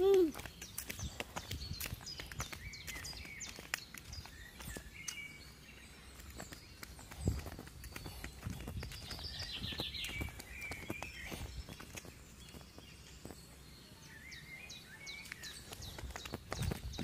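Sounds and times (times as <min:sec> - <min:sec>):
birds singing: 0:00.0 - 0:17.0
footsteps on paved path: 0:00.0 - 0:17.0.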